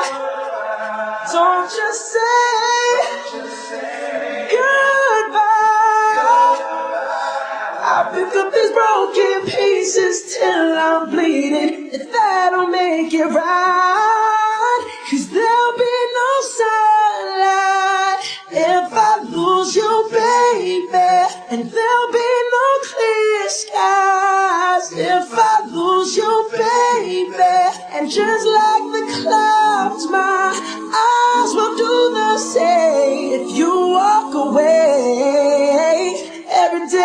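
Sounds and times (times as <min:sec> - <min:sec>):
a cappella voices singing chords: 0:00.0 - 0:37.0.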